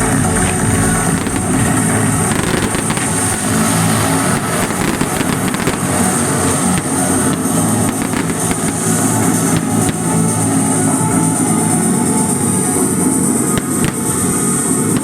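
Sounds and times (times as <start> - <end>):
fireworks popping and crackling: 0.0 - 15.0
loud music: 0.0 - 15.0.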